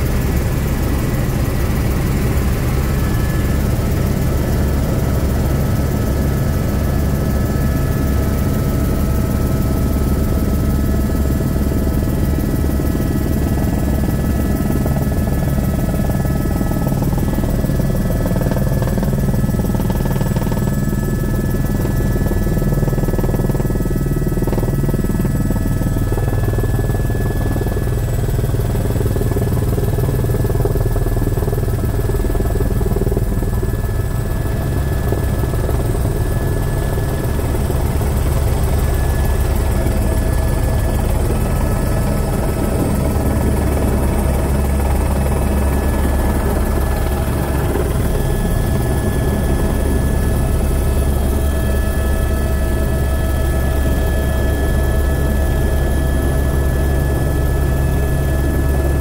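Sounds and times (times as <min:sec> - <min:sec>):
helicopter rotor beat: 0:00.0 - 0:59.0
helicopter turbine whine: 0:00.0 - 0:59.0.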